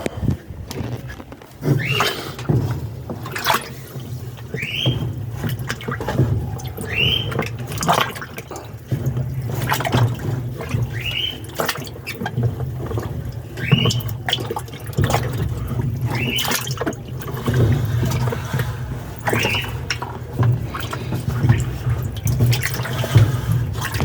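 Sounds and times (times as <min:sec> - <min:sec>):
washing machine motor hum: 0:00.0 - 0:24.0
water sloshing: 0:00.0 - 0:24.0.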